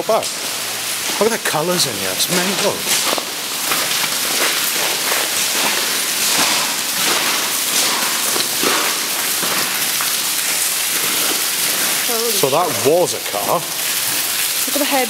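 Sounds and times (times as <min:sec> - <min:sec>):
water running and dripping: 0:00.0 - 0:15.0.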